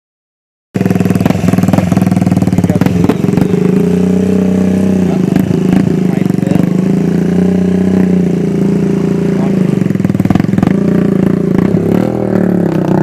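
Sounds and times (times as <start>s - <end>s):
single-cylinder engine running: 0.8s - 13.0s.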